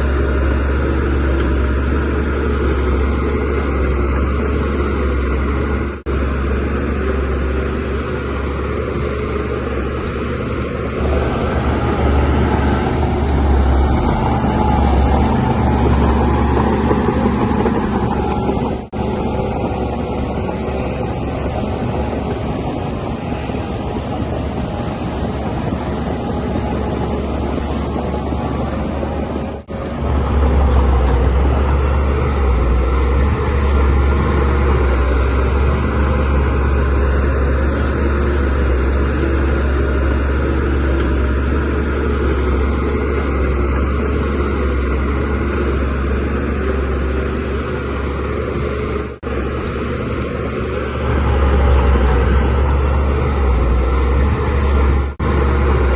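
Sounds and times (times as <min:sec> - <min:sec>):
bulldozer diesel engine humming: 0:00.0 - 0:55.9.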